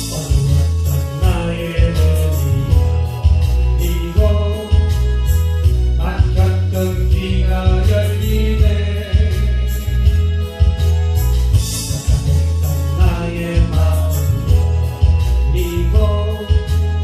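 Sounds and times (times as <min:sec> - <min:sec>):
gospel song: 0:00.0 - 0:17.0
pulsing bass beat: 0:00.0 - 0:17.0.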